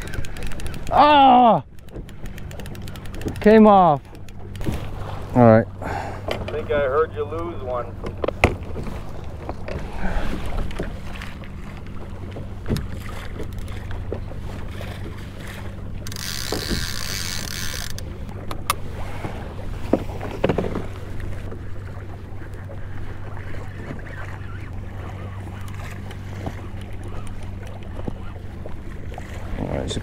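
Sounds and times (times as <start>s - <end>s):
water sloshing against hull: 0.0s - 30.0s.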